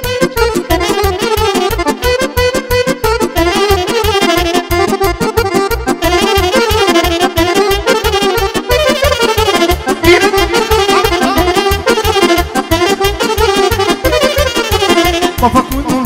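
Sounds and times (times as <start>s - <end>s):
instrumental party dance music: 0.0s - 16.0s.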